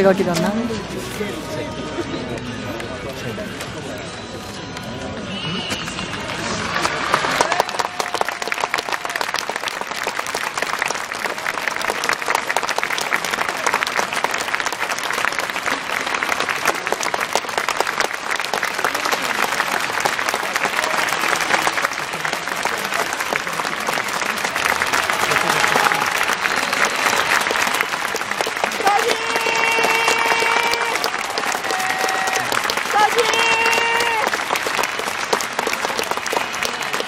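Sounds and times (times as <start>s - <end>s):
crowd applauding: 5.6s - 37.0s.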